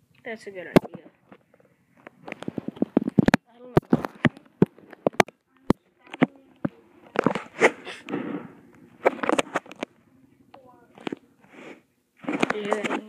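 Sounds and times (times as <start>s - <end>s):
rubbing and rustling: 0.9s - 5.3s, 6.0s - 9.9s, 10.8s - 13.0s.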